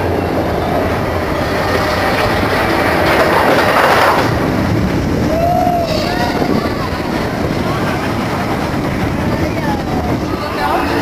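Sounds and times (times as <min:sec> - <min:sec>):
roller coaster rattling on track: 0:00.0 - 0:11.0.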